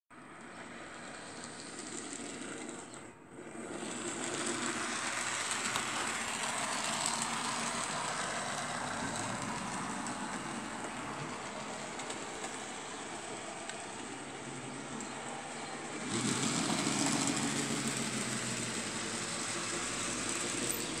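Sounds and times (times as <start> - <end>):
model train wheels on rails: 0.2 - 21.0
small electric motors whirring: 0.4 - 21.0.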